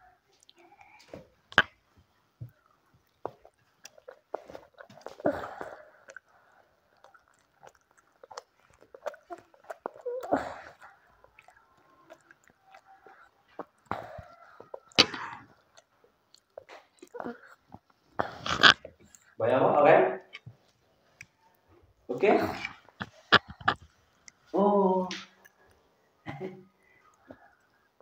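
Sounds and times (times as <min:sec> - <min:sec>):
child chewing noodles: 0:00.0 - 0:19.4, 0:20.2 - 0:24.6, 0:25.2 - 0:28.0.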